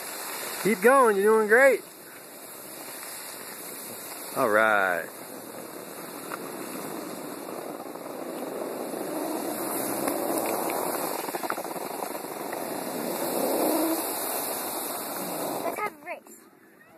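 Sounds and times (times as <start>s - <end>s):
skis sliding over snow: 0.0s - 16.2s.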